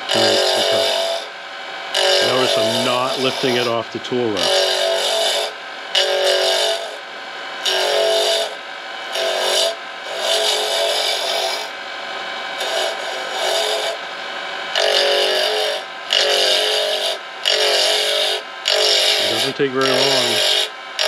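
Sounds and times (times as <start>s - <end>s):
gouge scraping on lathe: 0.0s - 1.3s, 1.9s - 7.0s, 7.6s - 11.7s, 12.6s - 14.0s, 14.8s - 21.0s
lathe running: 0.0s - 21.0s.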